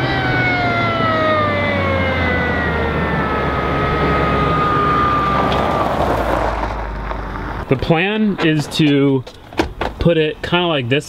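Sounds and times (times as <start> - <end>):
car engine with supercharger whine: 0.0 - 10.6.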